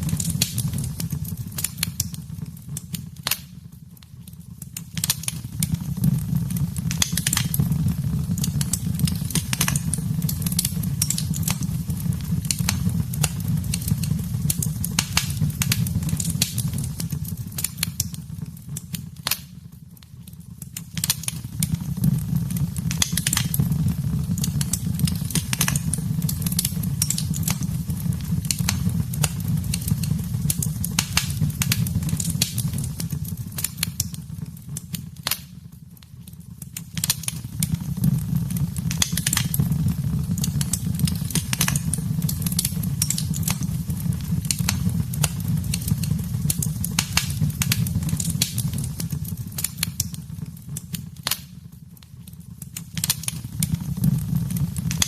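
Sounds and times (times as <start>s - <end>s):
fireplace fire crackling and popping: 0.0s - 55.0s.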